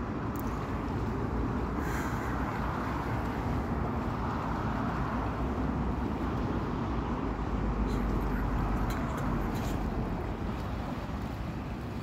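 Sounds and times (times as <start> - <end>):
lake waves washing on rocks: 0.5 - 12.0.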